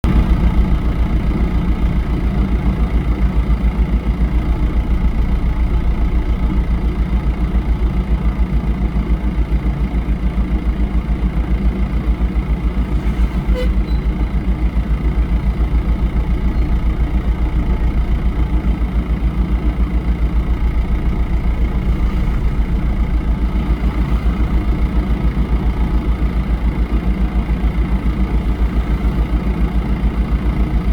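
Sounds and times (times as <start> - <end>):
machinery engine running: 0.0 - 30.9.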